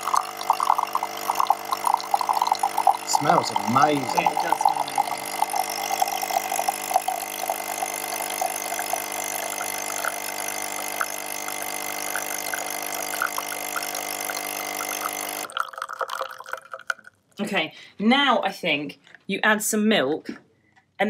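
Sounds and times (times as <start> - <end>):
coffee machine pump humming: 0.0 - 17.0
coffee trickling into mug: 0.0 - 17.4.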